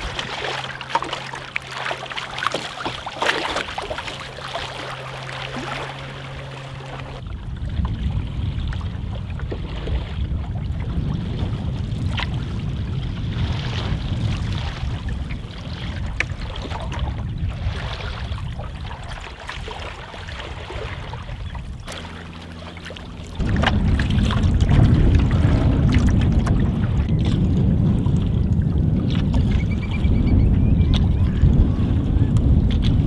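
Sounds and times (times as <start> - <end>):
water lapping against canoe hull: 0.0 - 33.0
wind buffeting microphone: 0.0 - 33.0.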